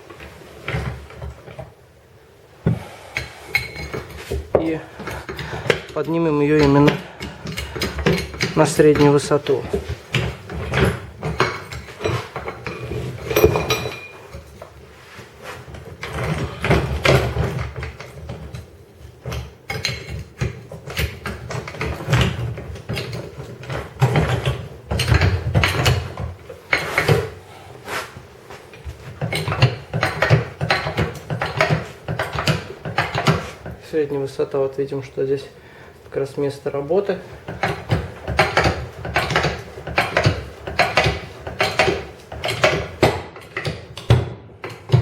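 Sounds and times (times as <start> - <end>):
metallic clanks of tools and parts: 3.2 - 14.8, 15.5 - 27.4, 28.6 - 33.8, 37.4 - 45.0.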